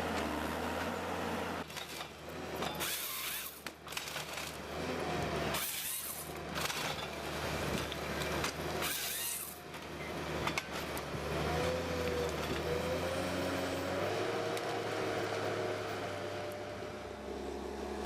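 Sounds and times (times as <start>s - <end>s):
engine running with whine: 0.0s - 18.0s.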